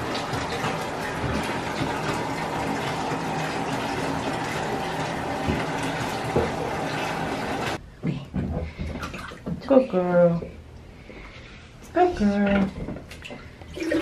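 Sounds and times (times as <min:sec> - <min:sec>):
water running into bathtub: 0:00.0 - 0:07.8, 0:08.4 - 0:10.2, 0:12.0 - 0:14.0.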